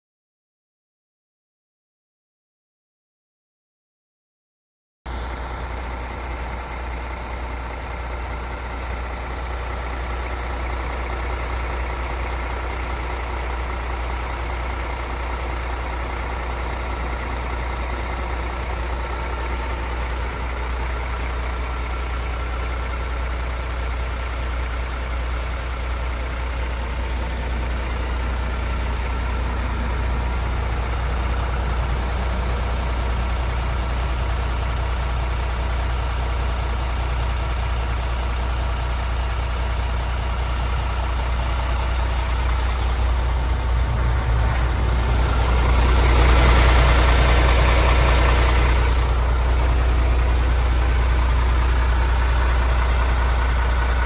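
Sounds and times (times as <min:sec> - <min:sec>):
diesel truck engine idling: 0:05.1 - 0:54.0.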